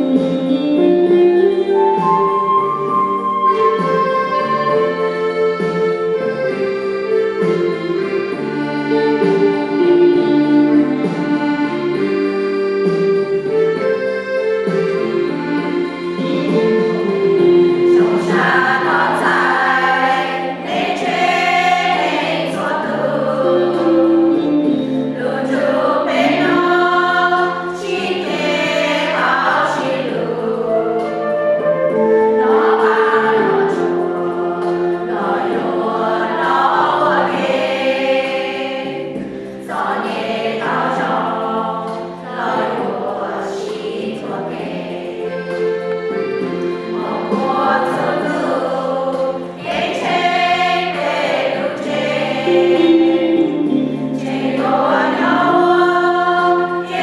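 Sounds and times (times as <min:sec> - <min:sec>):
choir singing a hymn: 0:00.0 - 0:57.0
held instrumental chords: 0:00.0 - 0:57.0.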